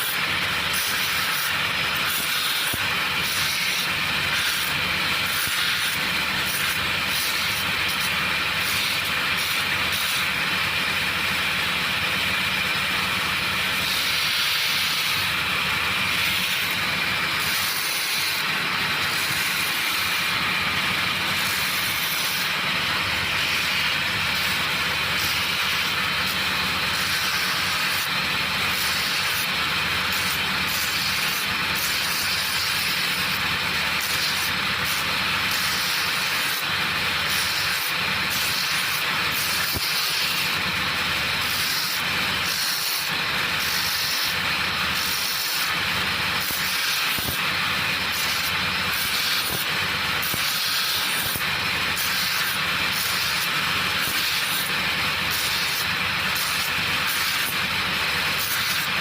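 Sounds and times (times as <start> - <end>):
workshop machine hissing and humming: 0.0 - 59.0.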